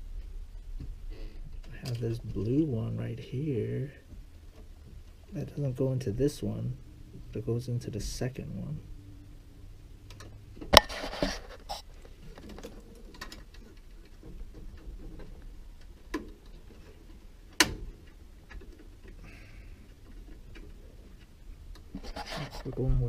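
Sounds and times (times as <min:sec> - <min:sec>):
wires rustling: 0:00.1 - 0:23.0.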